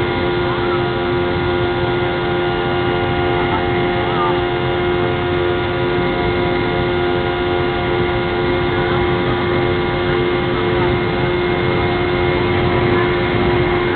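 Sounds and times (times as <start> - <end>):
constant whining tones: 0.0 - 13.9
jet engines droning: 0.0 - 13.9.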